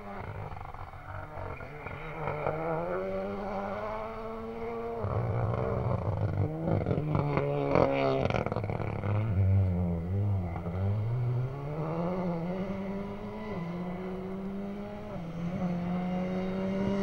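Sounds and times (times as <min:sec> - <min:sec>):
distant rally car engine revving: 0:00.0 - 0:17.0.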